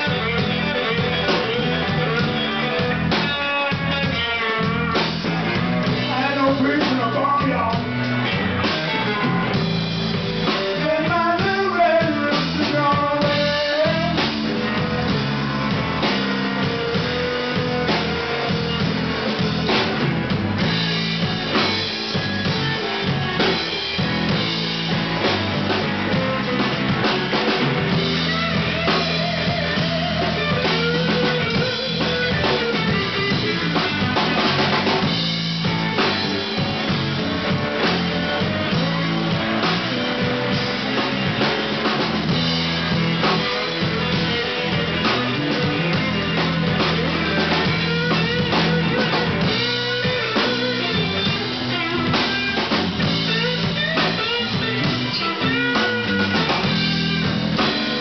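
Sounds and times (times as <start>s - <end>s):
drum kit steady beat: 0.0s - 58.0s
electric guitar: 0.0s - 58.0s.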